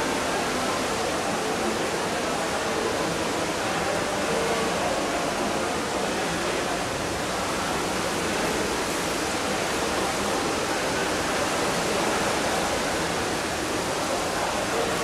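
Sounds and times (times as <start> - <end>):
underwater rushing water: 0.0 - 15.0.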